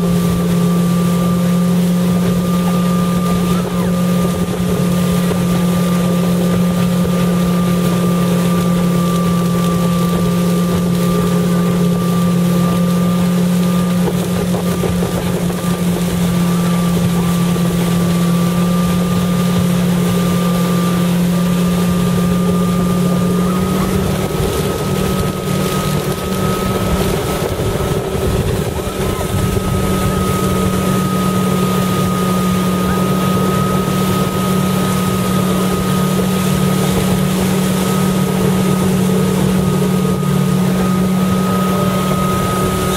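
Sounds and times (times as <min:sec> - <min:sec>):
motorboat engine running: 0:00.0 - 0:42.9
wind buffeting microphone: 0:02.1 - 0:42.9.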